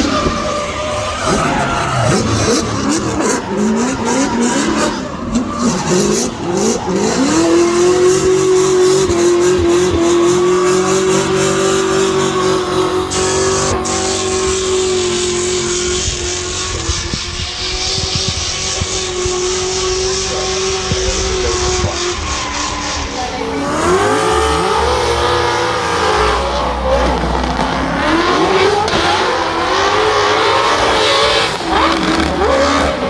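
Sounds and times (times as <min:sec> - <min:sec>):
car engine revving hard: 0:00.0 - 0:33.0
tyre squeal: 0:00.0 - 0:33.0.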